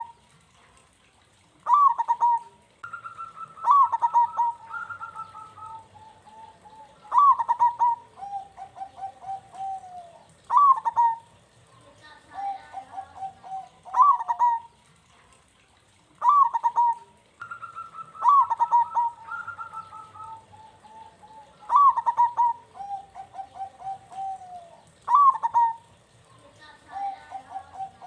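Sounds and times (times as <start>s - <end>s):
dove cooing: 0.0s - 0.7s, 1.6s - 14.8s, 16.2s - 28.0s
second dove cooing: 1.7s - 11.3s, 12.3s - 14.8s, 16.2s - 25.9s, 26.9s - 28.0s.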